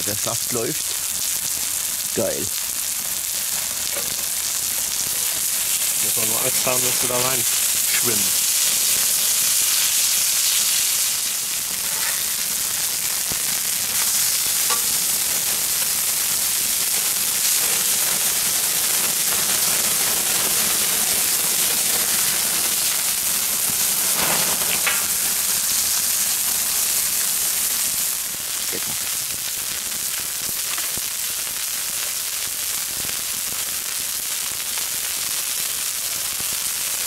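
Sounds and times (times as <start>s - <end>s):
meat sizzling on hot plate: 0.0s - 37.0s.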